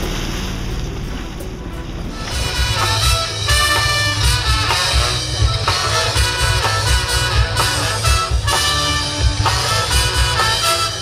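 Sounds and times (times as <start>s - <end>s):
band music with steady beat: 1.4s - 11.0s.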